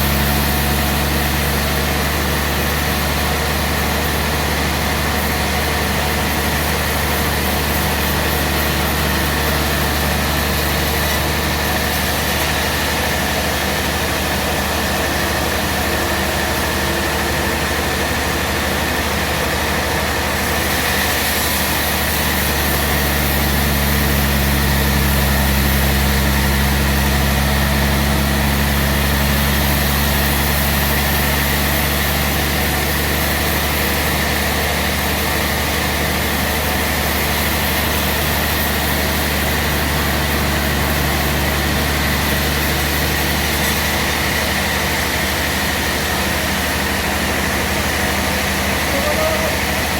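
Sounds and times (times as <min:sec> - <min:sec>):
sawmill machine drone: 0:00.0 - 0:49.9.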